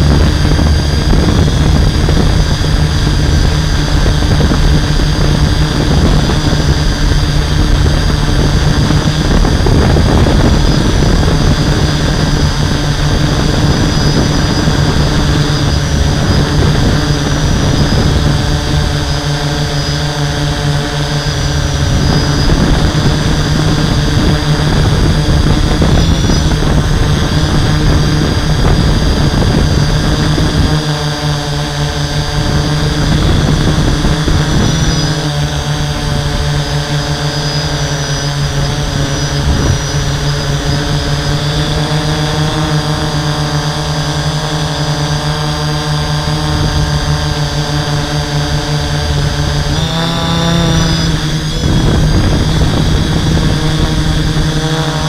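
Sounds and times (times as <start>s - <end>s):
drone motors and propellers humming: 0.0s - 55.0s
wind rumble on microphone: 0.0s - 55.0s.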